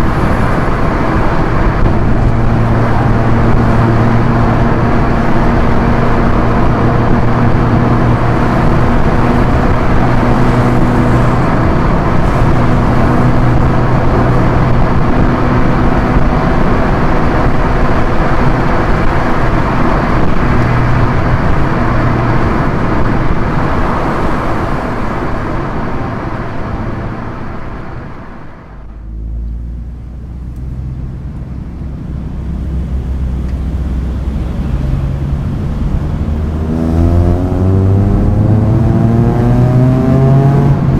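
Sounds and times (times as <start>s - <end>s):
car engine running: 0.0s - 40.9s
tyre and road noise: 0.0s - 40.9s.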